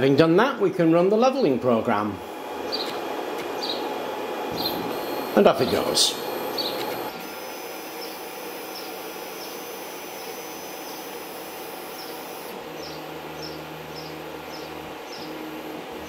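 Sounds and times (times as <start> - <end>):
stepper motor chirps: 2.2 - 16.0.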